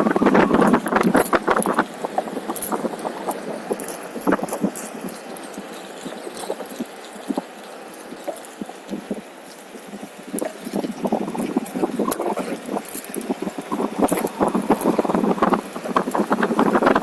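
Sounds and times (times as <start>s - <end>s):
electric skateboard rolling: 0.0s - 17.0s.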